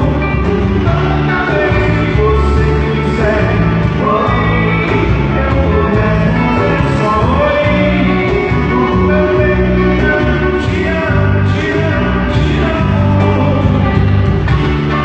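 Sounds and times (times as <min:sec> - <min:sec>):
bass line: 0:00.0 - 0:15.0
guitar: 0:00.0 - 0:15.0
person singing: 0:00.0 - 0:15.0.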